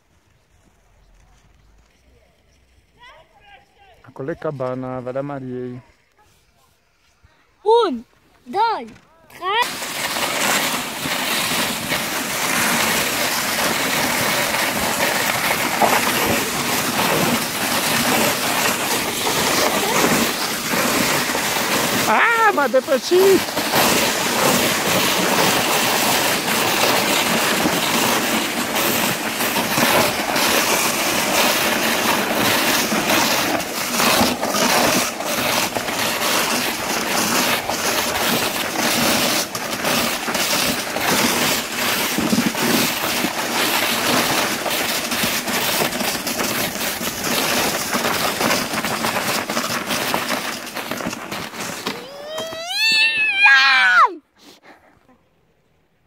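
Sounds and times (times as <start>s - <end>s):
sled runners scraping snow: 0.0s - 55.1s
sled knocks and rattles: 7.7s - 54.0s.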